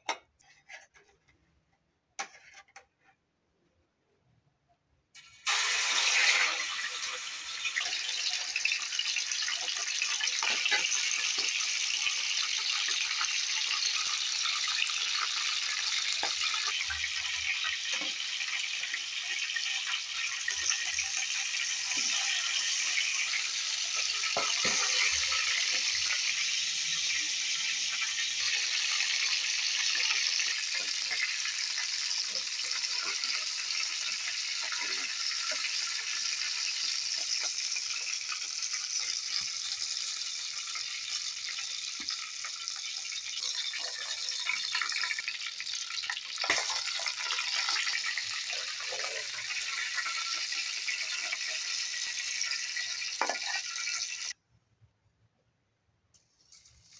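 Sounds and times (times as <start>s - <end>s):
chicken sizzling in a pan: 5.2s - 54.4s, 56.4s - 56.9s.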